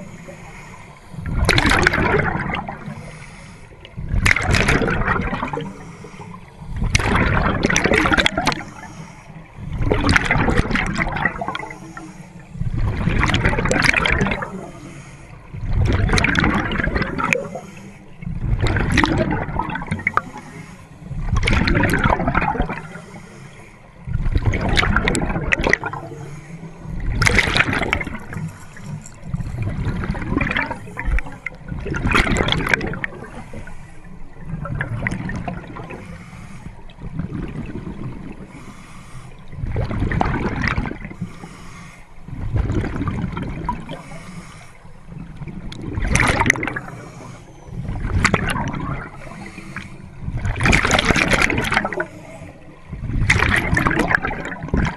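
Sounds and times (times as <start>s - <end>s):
underwater bubbles gurgling: 0.0s - 54.9s
underwater rumble: 0.0s - 54.9s.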